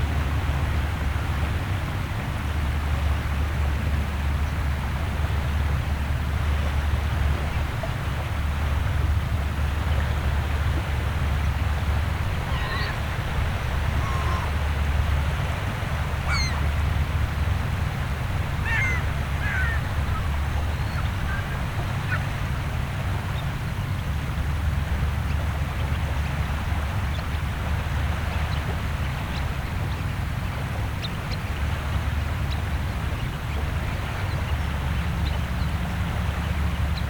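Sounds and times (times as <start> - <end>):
low rumble of the shore: 0.0 - 37.0
shorebirds calling: 2.4 - 37.0.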